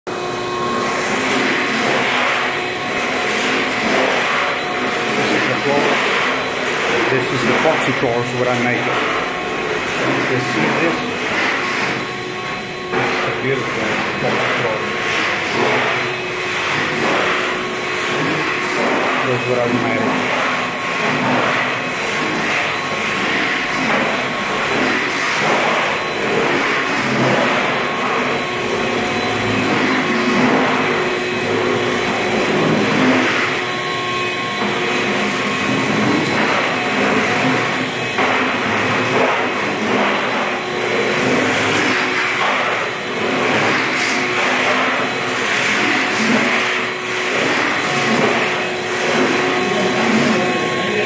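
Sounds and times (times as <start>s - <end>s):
machine motor running: 0.1s - 51.0s.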